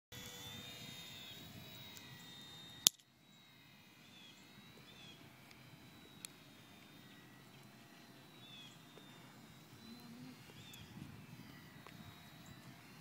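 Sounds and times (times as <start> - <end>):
rc plane motor whine: 0.1 - 13.0.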